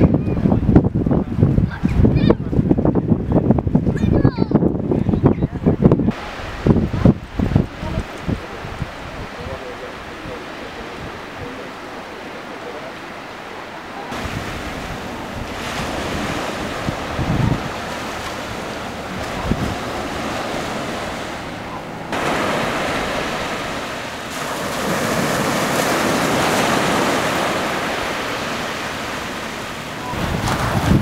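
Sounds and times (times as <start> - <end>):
wind buffeting microphone: 0.0 - 11.7, 14.0 - 31.0
small waves breaking on sand: 6.1 - 31.0.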